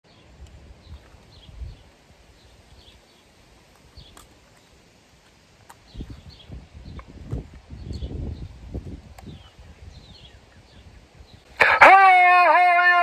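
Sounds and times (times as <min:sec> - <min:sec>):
small birds chirping: 0:00.1 - 0:11.6.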